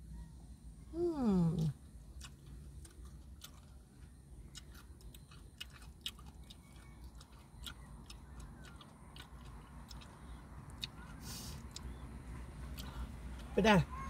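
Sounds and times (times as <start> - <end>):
person chewing crunchy food: 1.6 - 13.5.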